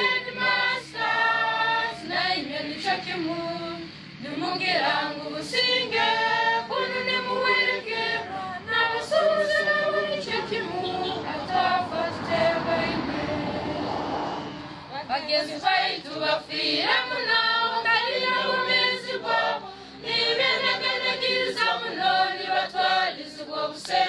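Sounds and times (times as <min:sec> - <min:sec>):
children's choir singing: 0:00.0 - 0:14.5, 0:15.1 - 0:24.0.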